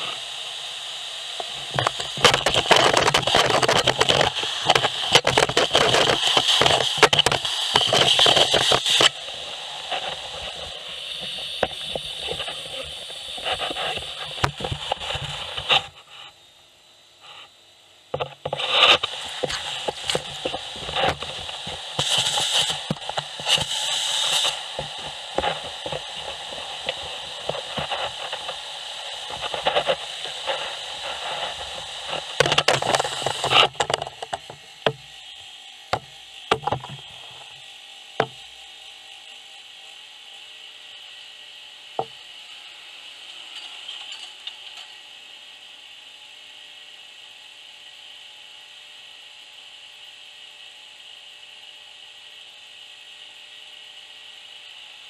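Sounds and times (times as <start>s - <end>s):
vacuum hose suction hissing: 0.0s - 16.4s, 18.2s - 46.9s.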